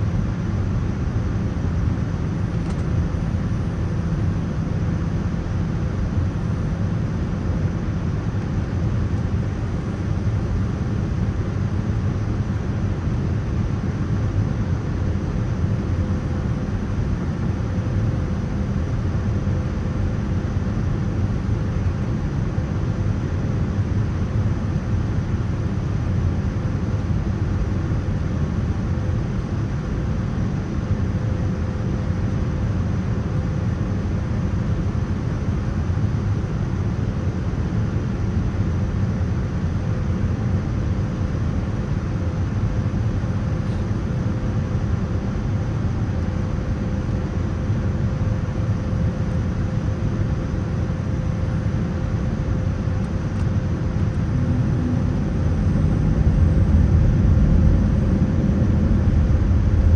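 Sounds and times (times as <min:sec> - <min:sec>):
airliner cabin rumble and air rush: 0:00.0 - 0:59.9
faint steady hum: 0:00.0 - 0:59.9.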